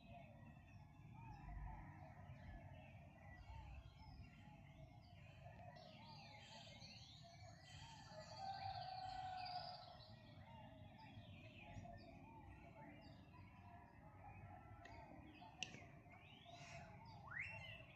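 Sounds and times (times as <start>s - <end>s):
birds chirping: 2.6s - 17.9s.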